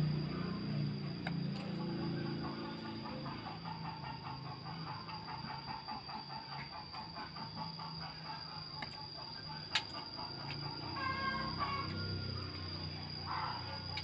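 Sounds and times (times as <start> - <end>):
high-pitched whine: 0.0 - 14.0.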